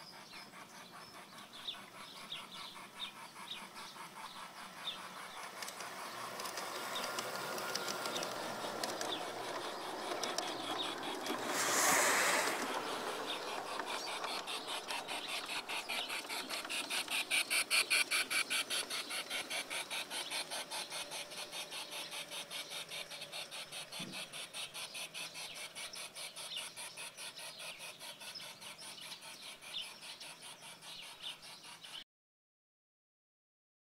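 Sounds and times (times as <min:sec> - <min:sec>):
model train clicking on track: 0:00.0 - 0:32.0.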